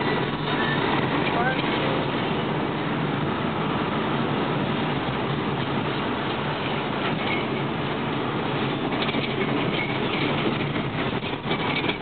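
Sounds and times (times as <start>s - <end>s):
car engine and tyre hum: 0.0s - 12.0s.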